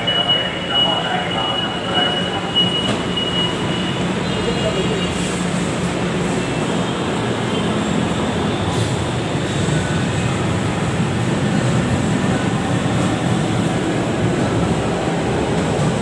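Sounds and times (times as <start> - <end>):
light-rail train rumbling: 0.0 - 16.0.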